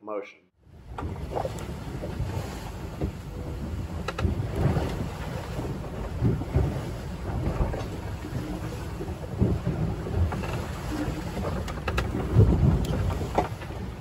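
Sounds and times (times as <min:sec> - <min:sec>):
rough seas breaking along hull: 0:00.6 - 0:14.0
wind buffeting microphone: 0:00.6 - 0:14.0.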